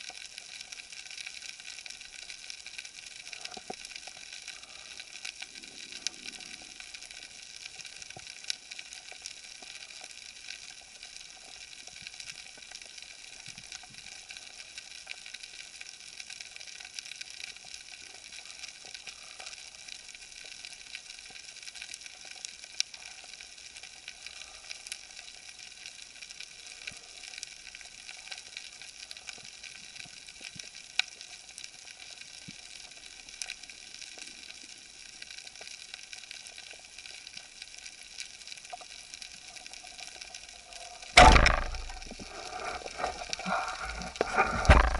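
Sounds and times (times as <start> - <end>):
underwater crackling: 0.0 - 44.9.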